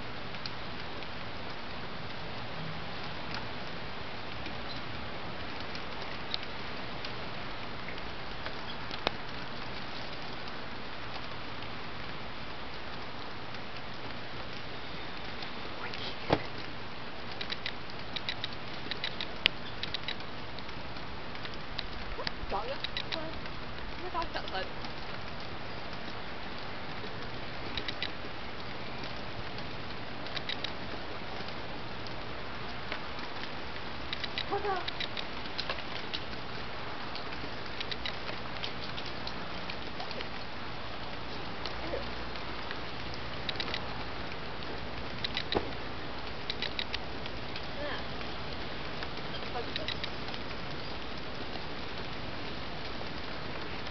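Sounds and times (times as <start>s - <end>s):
raindrops ticking close by: 0.0s - 53.9s
steady rain falling: 0.0s - 53.9s.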